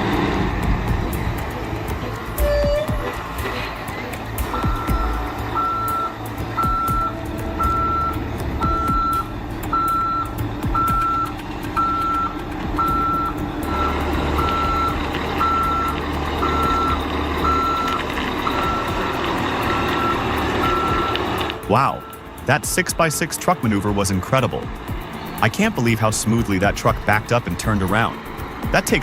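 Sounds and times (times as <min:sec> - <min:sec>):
diesel truck engine running: 0:00.0 - 0:29.0
truck reversing alarm beeping: 0:00.0 - 0:29.0.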